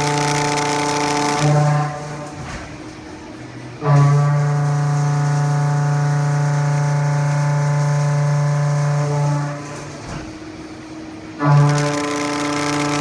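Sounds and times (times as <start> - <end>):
mill cutting steel humming: 0.0 - 13.0.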